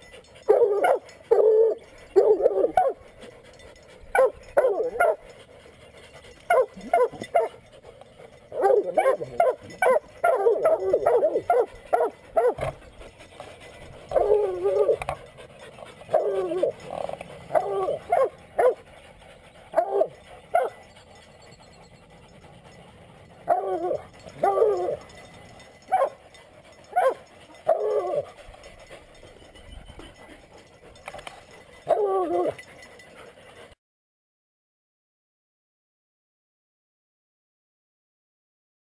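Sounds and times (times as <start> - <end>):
hounds barking and bawling: 0.0 - 33.8.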